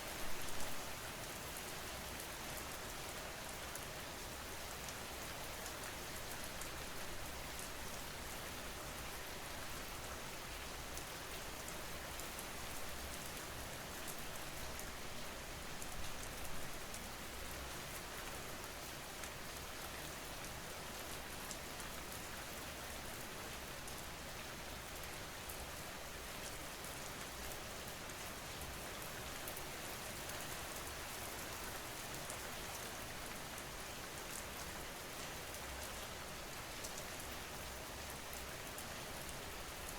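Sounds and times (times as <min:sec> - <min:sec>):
rain pattering on surface: 0:00.0 - 0:39.9.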